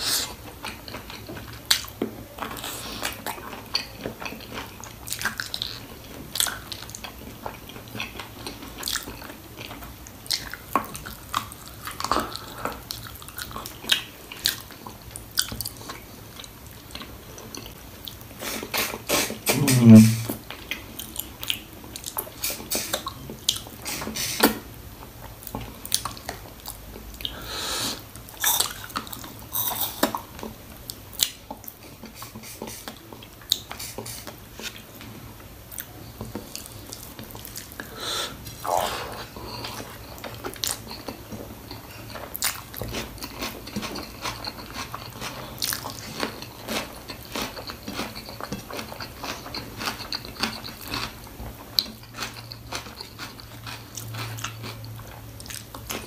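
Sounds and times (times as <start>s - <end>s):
person chewing with mouth smacks: 0.0s - 24.6s, 25.2s - 35.1s, 35.7s - 56.0s.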